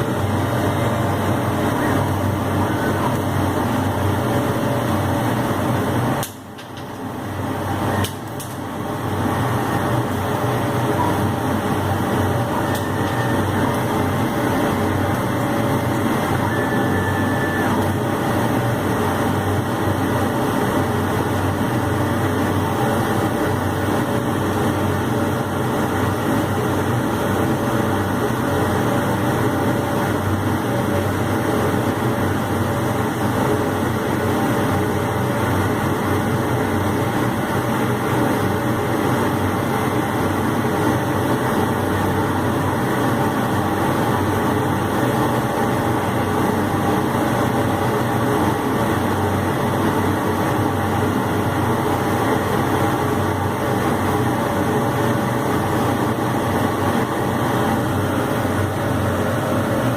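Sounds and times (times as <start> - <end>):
laser cutter humming and whirring: 0.0 - 59.9.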